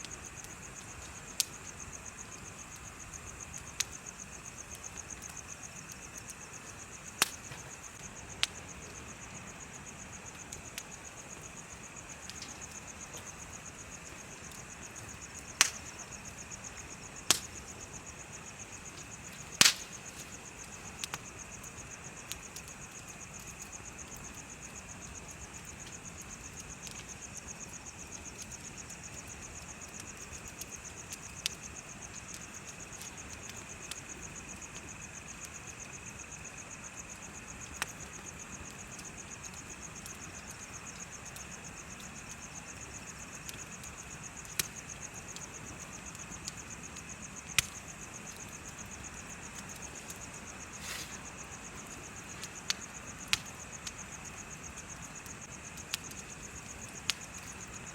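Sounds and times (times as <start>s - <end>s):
bonfire hissing: 0.0s - 57.9s
burning wood pops: 0.0s - 57.9s
crickets trilling: 0.0s - 57.9s.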